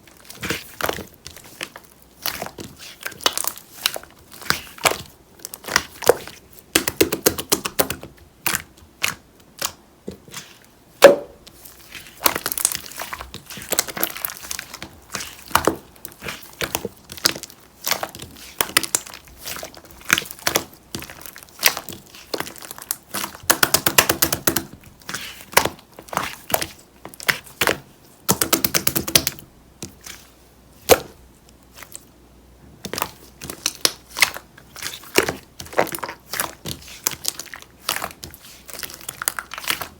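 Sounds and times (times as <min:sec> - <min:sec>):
slime squished by hand: 0:00.1 - 0:32.1, 0:32.8 - 0:39.9.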